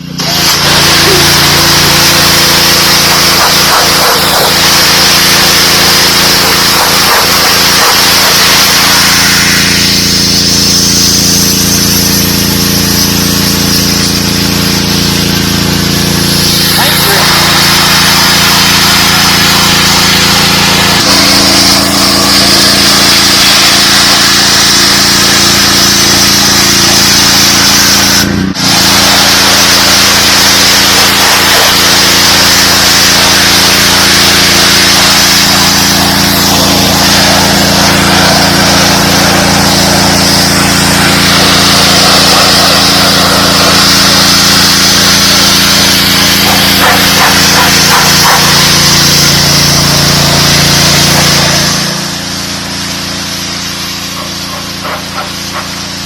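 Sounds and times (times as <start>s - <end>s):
high-pressure spray hissing on concrete: 0.0s - 56.0s
pressure washer engine hum: 0.0s - 56.0s.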